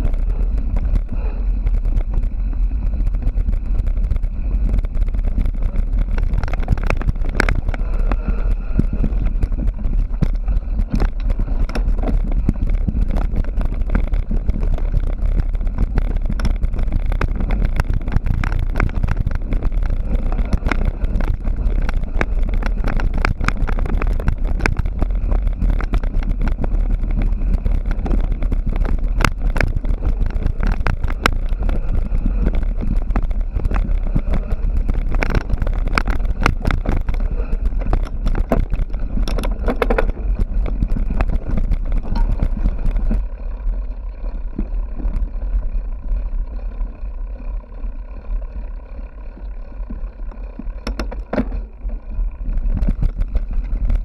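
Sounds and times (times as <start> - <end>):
bike rattling and clattering: 0.0 - 54.0
low wind rumble on microphone: 0.0 - 54.0.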